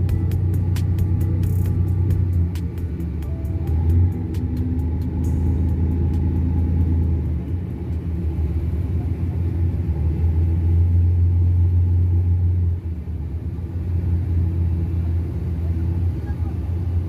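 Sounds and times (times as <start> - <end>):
boat diesel engine rumbling: 0.0 - 17.0.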